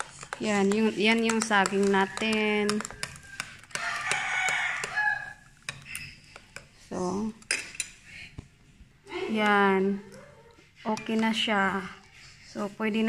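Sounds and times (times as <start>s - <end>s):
fork whisking batter in bowl: 0.0s - 13.0s.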